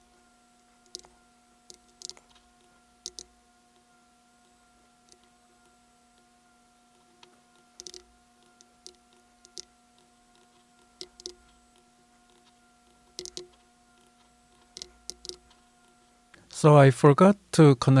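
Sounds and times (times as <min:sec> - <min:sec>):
mouse and keyboard clicks: 0:00.0 - 0:16.3
faint steady hum: 0:00.0 - 0:18.0.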